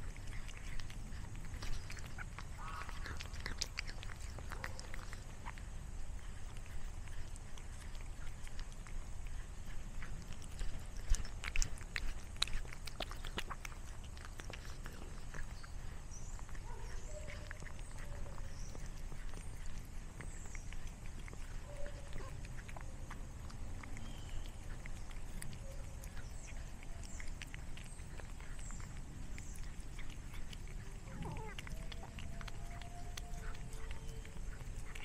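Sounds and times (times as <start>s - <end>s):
cat crunching a dry snack: 0.0s - 35.0s.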